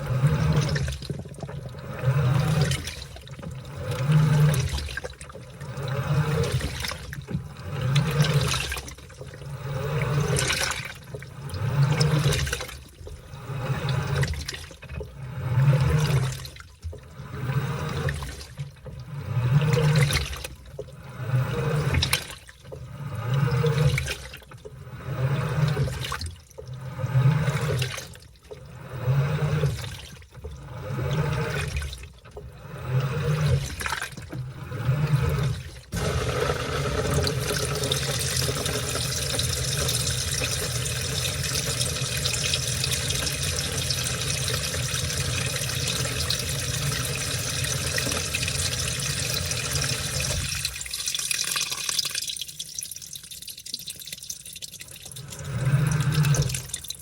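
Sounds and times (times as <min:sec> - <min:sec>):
washing machine churning: 0:00.0 - 0:57.0.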